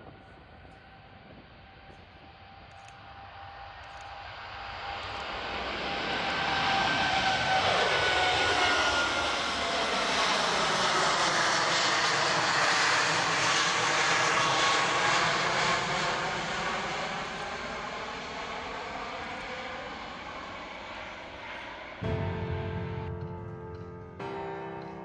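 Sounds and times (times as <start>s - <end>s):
jet engine whine falling in pitch: 0.0s - 24.4s
jet engines passing overhead: 0.0s - 25.0s.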